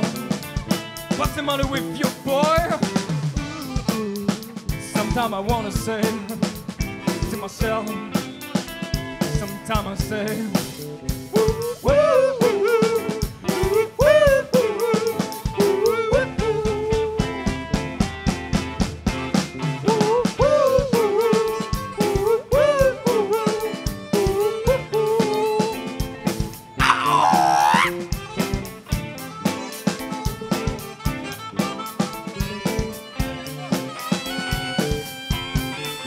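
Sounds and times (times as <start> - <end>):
bass and electric guitars: 0.0 - 36.0
bending lead melody: 0.0 - 36.0
drum kit beat: 0.0 - 36.0.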